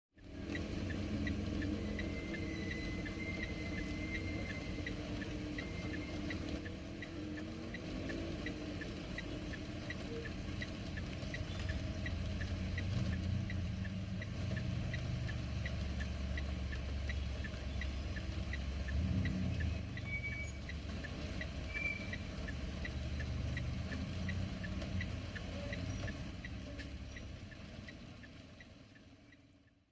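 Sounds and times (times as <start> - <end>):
hazard-light flasher ticking: 0.2 - 29.4
rain pattering on car: 0.2 - 29.9.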